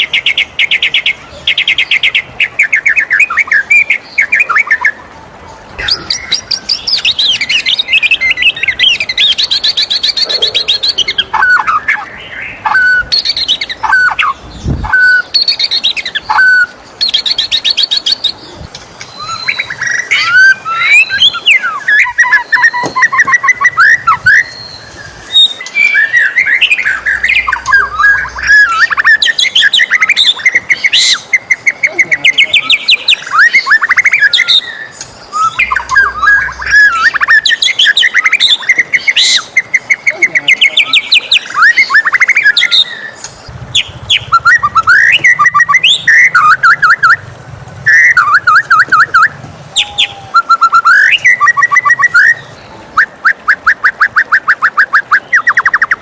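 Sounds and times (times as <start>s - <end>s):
bird singing whistled phrases: 0.0s - 5.0s, 5.8s - 43.2s, 43.8s - 47.2s, 47.8s - 56.0s.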